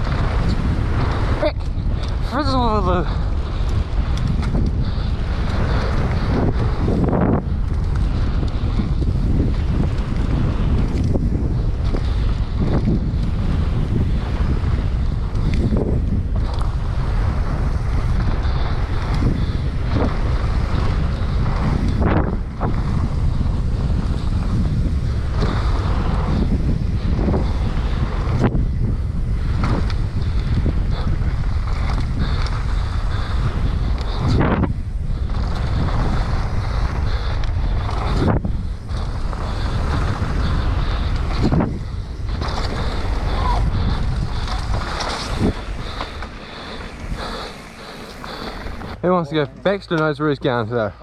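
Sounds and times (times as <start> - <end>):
low rumble of bike riding: 0.0 - 51.0
tyre and trail noise: 0.0 - 51.0
wind buffeting microphone: 0.0 - 51.0.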